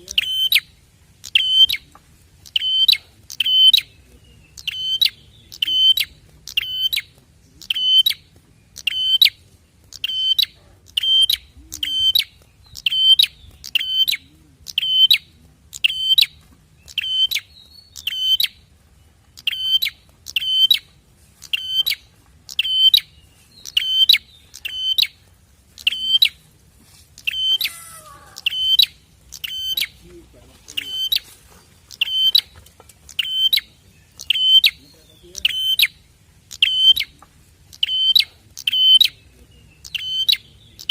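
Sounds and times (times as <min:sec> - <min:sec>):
high bird chirps: 0:00.0 - 0:26.5, 0:27.2 - 0:40.9
lower falling bird call: 0:00.0 - 0:40.9.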